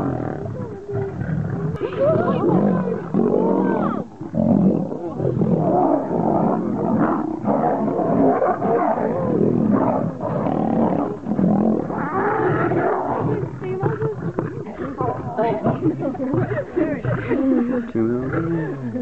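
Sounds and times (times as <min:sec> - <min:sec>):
lions fighting and roaring: 0:00.0 - 0:19.0.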